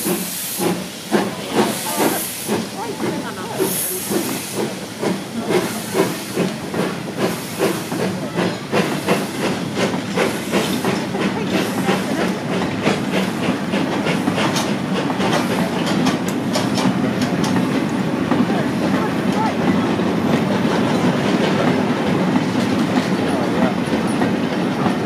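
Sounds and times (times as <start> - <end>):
steam locomotive chuffing: 0.0 - 25.0
wagons rumbling over rail joints: 0.0 - 25.0.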